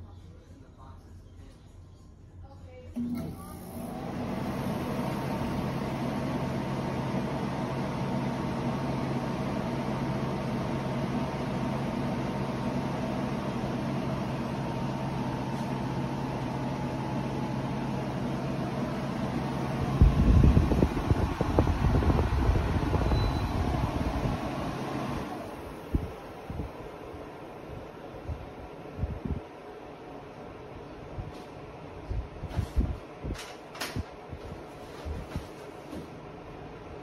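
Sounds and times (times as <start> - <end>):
air conditioner fan running: 0.0 - 37.0.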